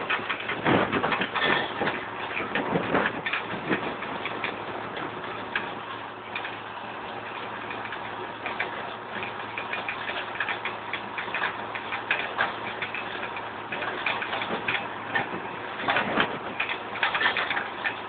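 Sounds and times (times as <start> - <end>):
seed drill rattling and clicking: 0.0 - 18.0
tractor engine running: 0.0 - 18.0.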